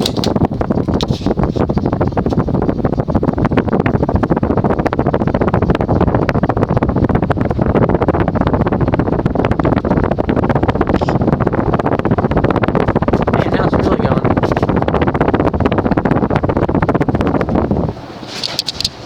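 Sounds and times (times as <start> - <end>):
ceiling fan air rushing: 0.0 - 19.0.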